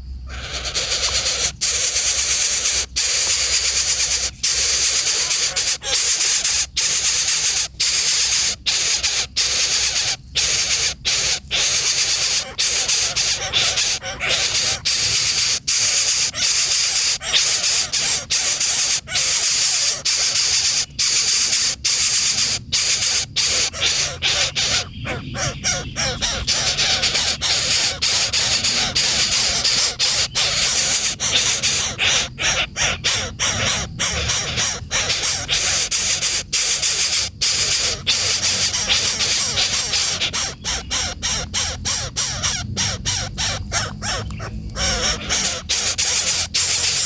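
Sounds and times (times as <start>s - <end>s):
bird harsh raspy hissing call: 0.0s - 47.0s.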